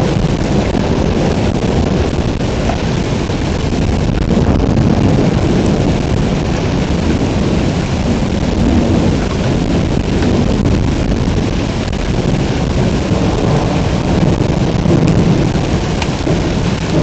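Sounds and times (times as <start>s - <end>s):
heavy pouring rain: 0.0s - 17.0s
low thunder rumble: 0.0s - 17.0s.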